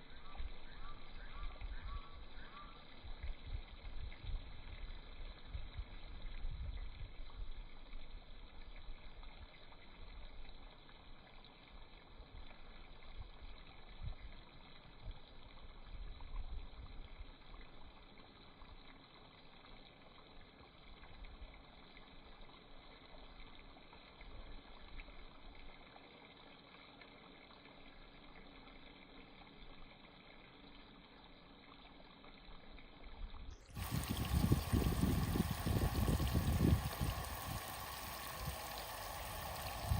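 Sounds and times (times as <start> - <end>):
water running and trickling: 0.1 - 39.9.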